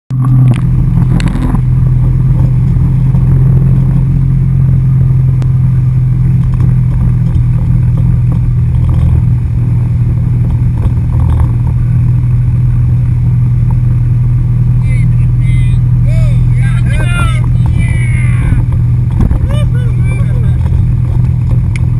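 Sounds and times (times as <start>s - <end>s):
boat engine drone: 0.1s - 21.9s.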